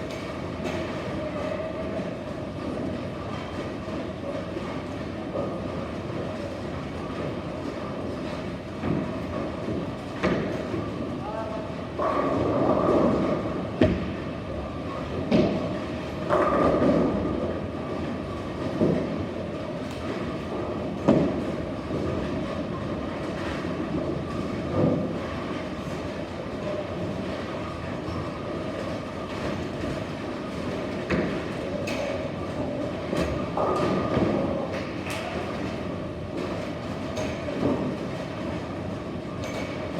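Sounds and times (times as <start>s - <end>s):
bowling balls rolling rumble: 0.1s - 39.9s.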